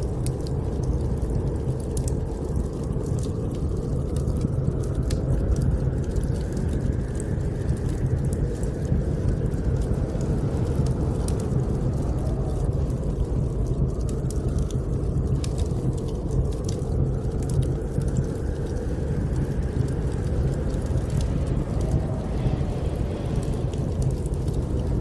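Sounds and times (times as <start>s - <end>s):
blizzard wind blowing: 0.0s - 25.0s
wood fire crackling: 0.0s - 25.0s.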